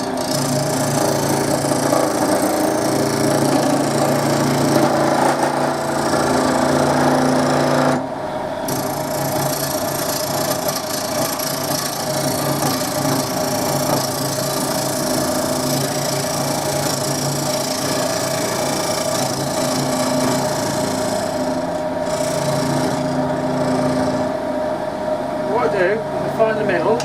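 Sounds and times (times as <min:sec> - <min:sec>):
chisel cutting wood: 0:00.0 - 0:08.0, 0:08.7 - 0:24.3
wood lathe motor hum: 0:00.0 - 0:08.1, 0:08.7 - 0:24.6.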